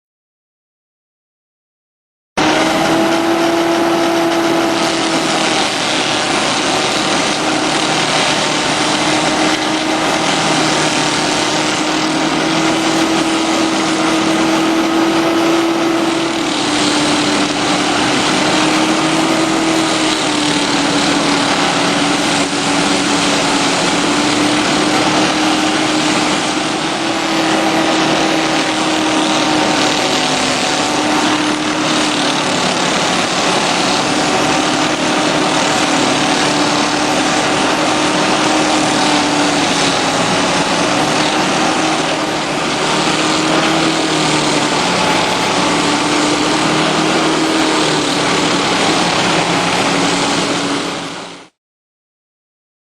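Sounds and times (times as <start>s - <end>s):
petrol engine running at high speed: 2.4s - 51.6s.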